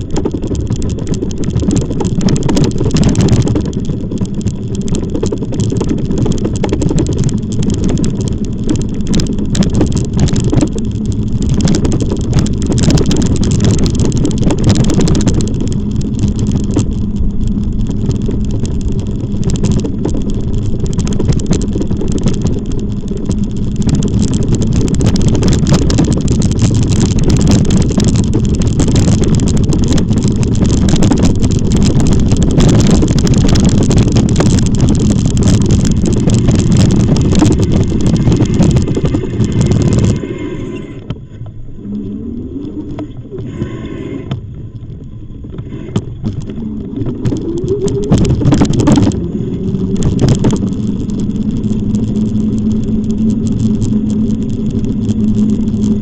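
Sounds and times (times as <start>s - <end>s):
clicks and rattles: 0.0s - 56.0s
wind and road noise: 0.0s - 56.0s.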